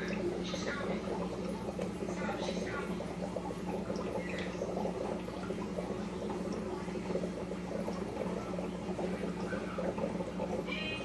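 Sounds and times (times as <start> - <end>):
aquarium water bubbling: 0.0 - 11.0
steady low hum: 0.0 - 11.0.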